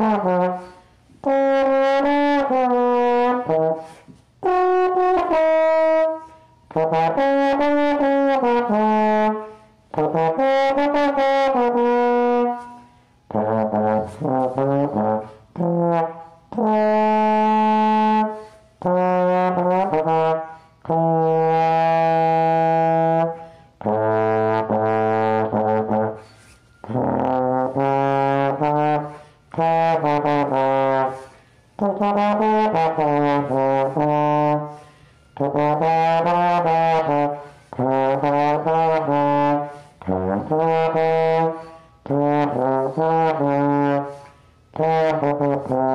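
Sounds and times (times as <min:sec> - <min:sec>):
brass instrument melody: 0:00.0 - 0:45.9.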